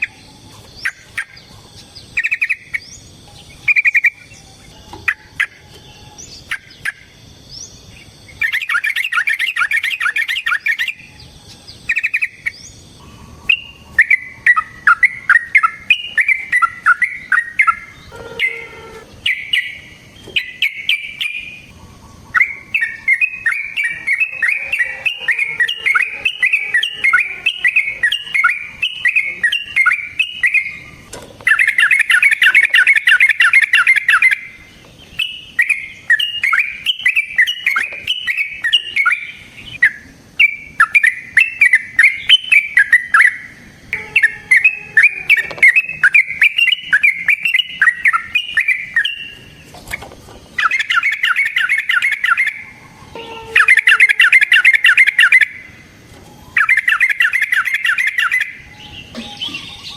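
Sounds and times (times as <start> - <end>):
bird calling: 0.0 - 59.9.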